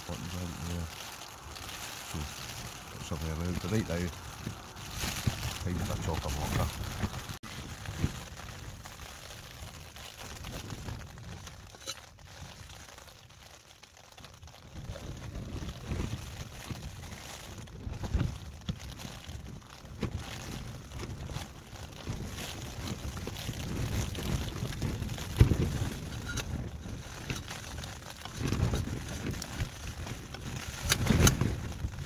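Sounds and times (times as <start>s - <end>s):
wind gusting against tent: 0.0s - 32.0s.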